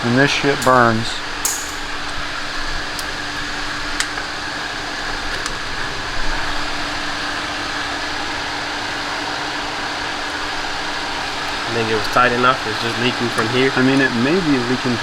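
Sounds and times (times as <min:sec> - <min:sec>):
mechanical whirring hum: 0:00.0 - 0:15.0.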